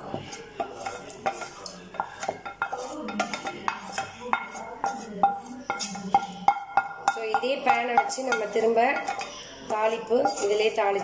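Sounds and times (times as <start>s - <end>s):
wooden spatula scraping frying pan: 0.0s - 11.0s.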